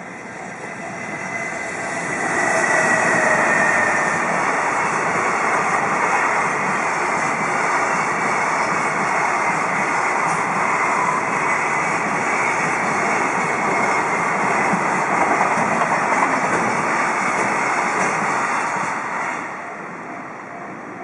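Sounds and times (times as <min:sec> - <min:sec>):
steel wheels on rail: 0:00.0 - 0:20.2
freight train rolling past: 0:00.0 - 0:21.0.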